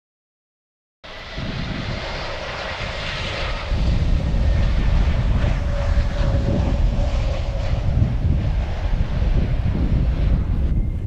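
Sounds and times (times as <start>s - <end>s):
jet engines running with whine: 1.0s - 11.0s
low rumble: 1.1s - 11.0s.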